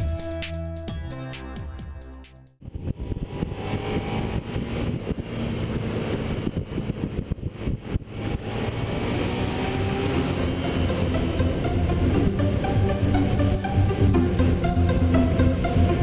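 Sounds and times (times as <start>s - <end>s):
motorcycle engine at speed: 2.6s - 16.0s.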